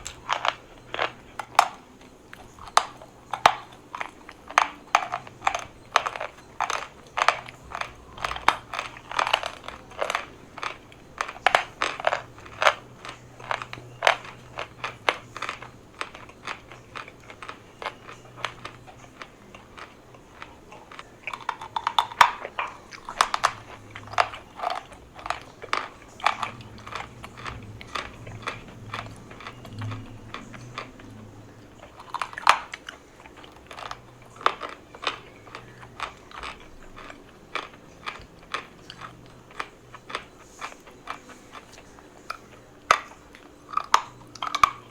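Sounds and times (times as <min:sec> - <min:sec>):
chalk being bitten and chewed: 0:00.0 - 0:44.9.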